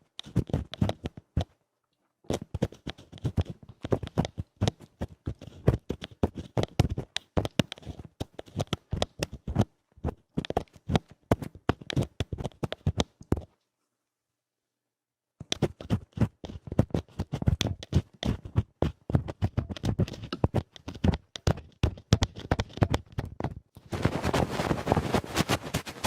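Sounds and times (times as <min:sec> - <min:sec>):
scratching on a microphone: 0:00.2 - 0:01.6, 0:02.3 - 0:13.5, 0:15.4 - 0:26.0.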